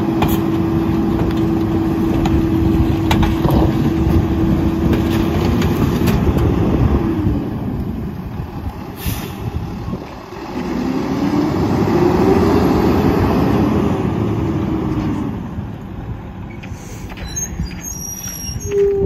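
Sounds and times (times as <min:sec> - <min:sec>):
diesel truck engine revving: 0:00.0 - 0:16.4.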